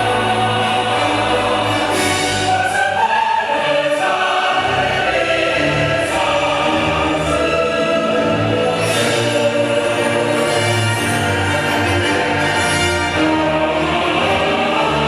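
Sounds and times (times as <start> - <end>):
orchestral music with choir: 0.0 - 15.0.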